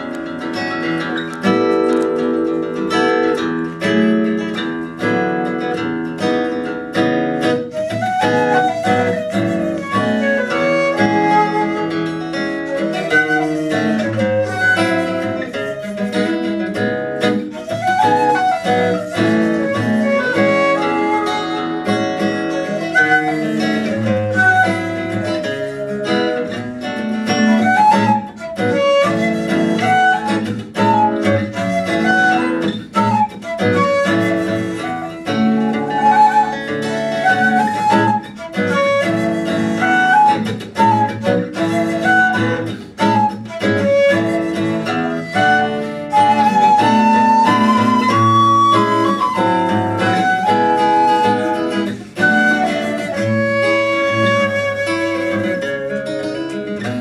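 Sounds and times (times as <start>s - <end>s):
bamboo flute melody: 0.0s - 57.0s
fingerpicked acoustic guitar: 0.0s - 57.0s.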